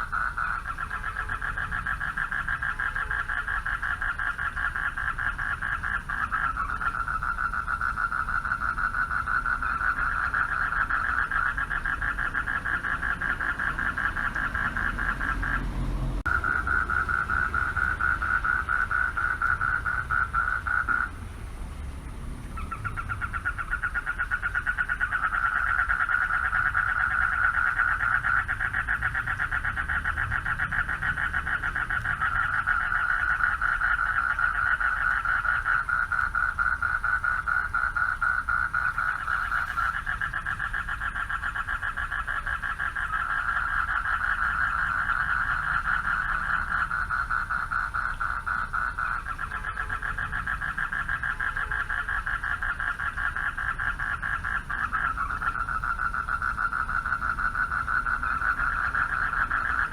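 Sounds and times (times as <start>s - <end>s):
frogs chorus calling: 0.0s - 59.9s.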